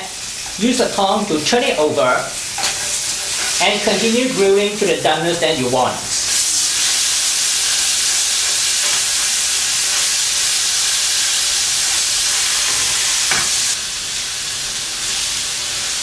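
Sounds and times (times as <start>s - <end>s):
steak sizzling on grill pan: 0.0s - 16.0s.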